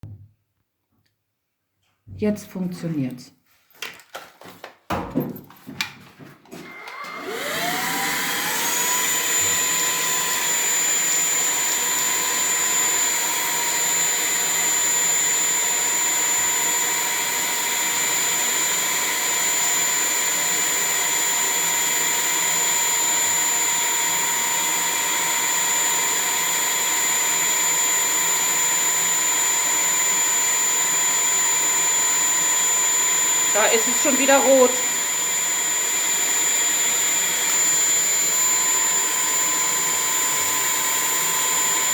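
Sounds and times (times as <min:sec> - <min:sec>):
vacuum cleaner motor whining: 0:06.5 - 0:41.9.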